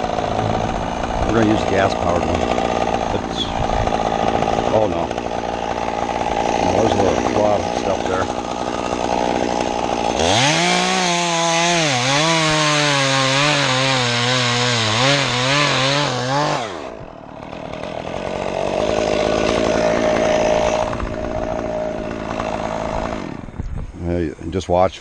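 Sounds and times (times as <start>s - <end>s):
chainsaw cutting a limb: 0.0s - 23.8s
chainsaw running with fainter whine: 0.0s - 25.0s.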